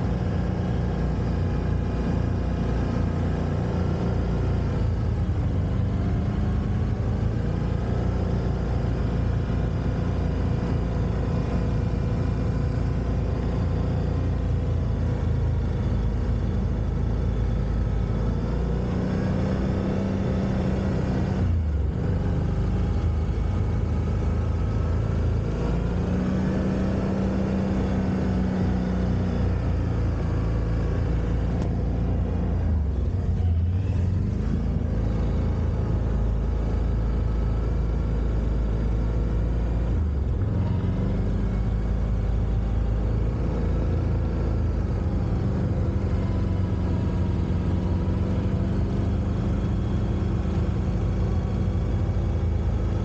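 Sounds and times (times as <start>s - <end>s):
quad bike engine running: 0.0s - 53.0s.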